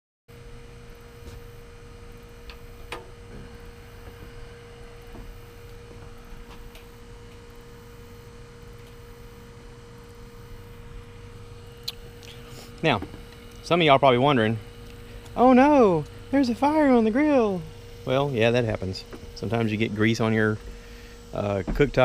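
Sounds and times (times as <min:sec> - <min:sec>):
steady hum: 0:00.3 - 0:22.0
grease fire crackling: 0:00.4 - 0:22.0.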